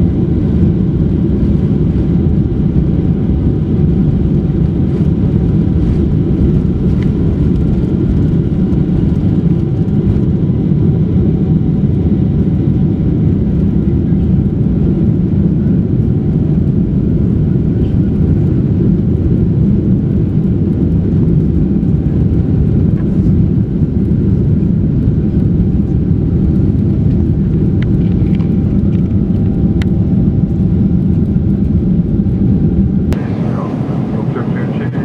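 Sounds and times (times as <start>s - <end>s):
jet engine rumble in cabin: 0.0s - 35.0s.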